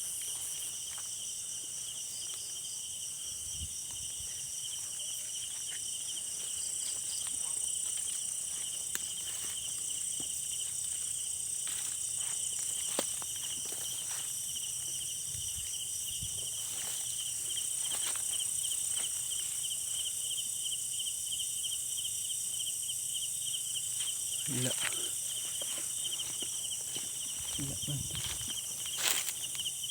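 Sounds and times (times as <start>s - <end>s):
night insects trilling: 0.0s - 29.9s.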